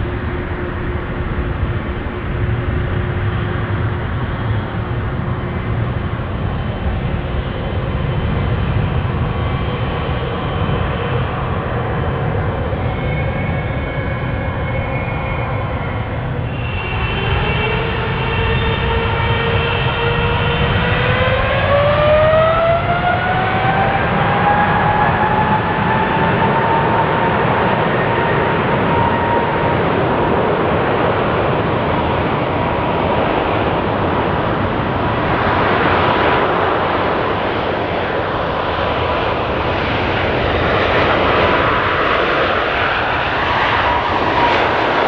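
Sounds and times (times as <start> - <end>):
jet engines rushing: 0.0 - 45.0.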